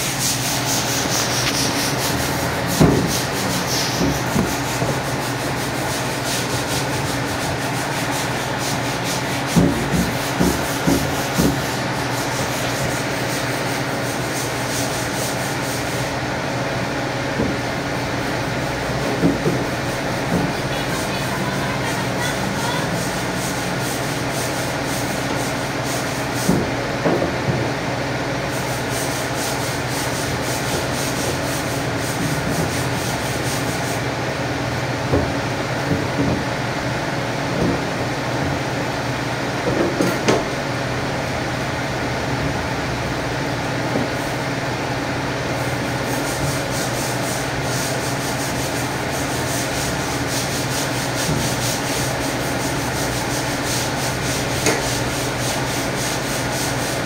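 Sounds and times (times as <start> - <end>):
machine hum and hiss: 0.0 - 57.0.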